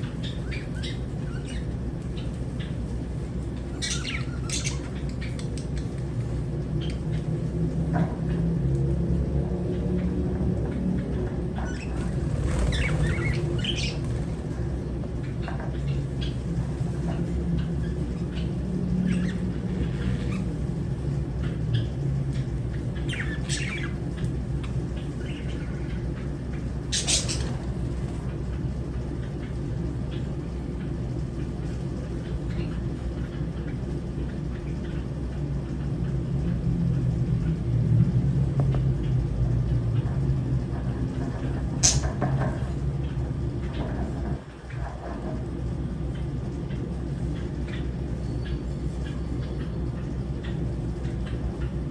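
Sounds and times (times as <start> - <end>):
birds squawking and chirping: 0.0 - 37.8, 40.0 - 51.9
steady low rumble: 0.0 - 51.9.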